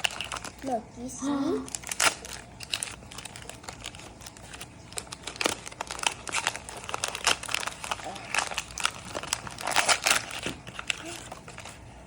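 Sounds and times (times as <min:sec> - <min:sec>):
plastic packaging crinkling: 0:00.0 - 0:00.8, 0:01.4 - 0:12.0.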